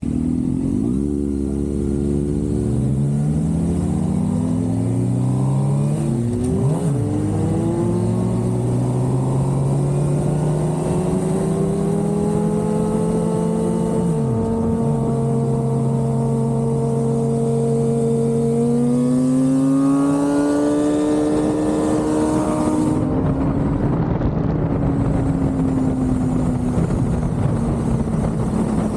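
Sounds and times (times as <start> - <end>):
motorcycle engines accelerating: 0.0 - 28.9
heavy wind rush: 1.5 - 28.9.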